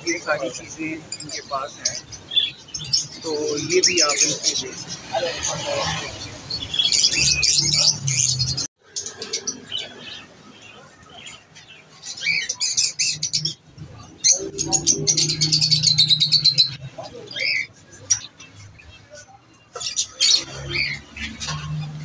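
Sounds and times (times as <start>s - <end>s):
small birds chirping and chattering: 0.0s - 22.0s.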